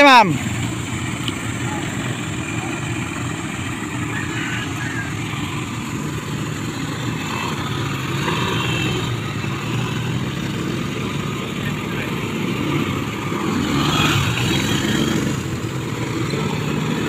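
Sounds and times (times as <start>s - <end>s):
quad bike engines running: 0.0s - 17.0s.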